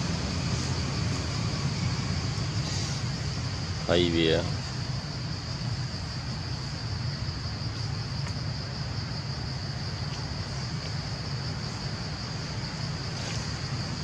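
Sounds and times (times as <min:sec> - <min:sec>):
insects droning high-pitched: 0:00.0 - 0:14.0
low steady rumble: 0:00.0 - 0:14.0.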